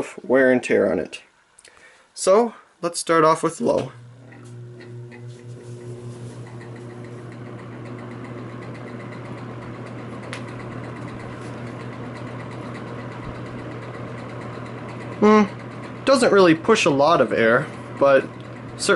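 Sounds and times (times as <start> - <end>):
fan motor humming: 3.6 - 18.9.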